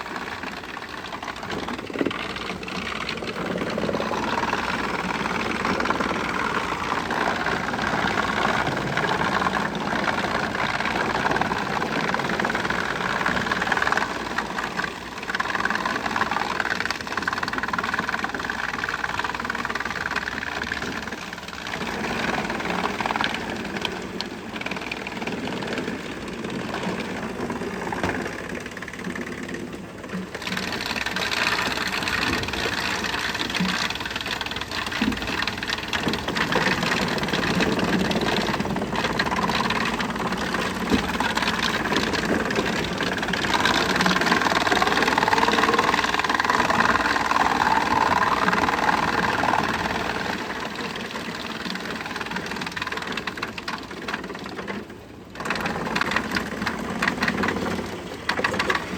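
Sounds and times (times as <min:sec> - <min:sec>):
wood chipper running: 0:00.0 - 0:58.9.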